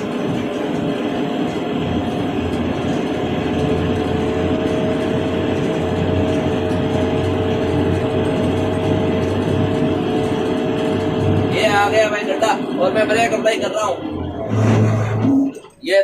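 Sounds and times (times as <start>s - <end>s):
diesel engine running with whine: 0.0s - 15.8s.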